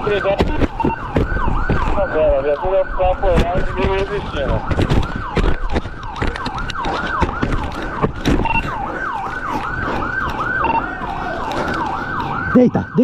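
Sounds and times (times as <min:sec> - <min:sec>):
police siren: 0:00.0 - 0:13.0.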